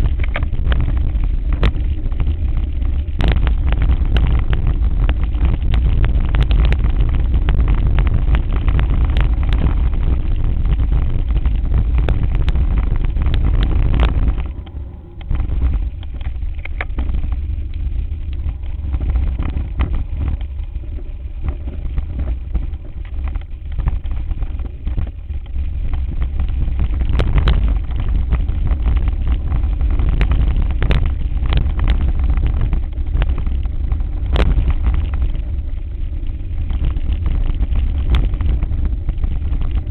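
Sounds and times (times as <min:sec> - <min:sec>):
bike tyres rumbling over rough ground: 0:00.0 - 0:39.9
wind on microphone: 0:00.0 - 0:39.9.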